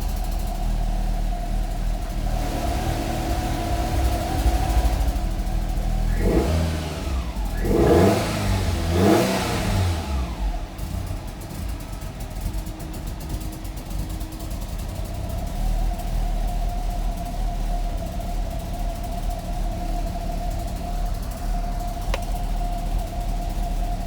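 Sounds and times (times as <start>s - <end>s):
car engine idling roughly: 0.0s - 24.0s
engine revving: 0.0s - 24.0s.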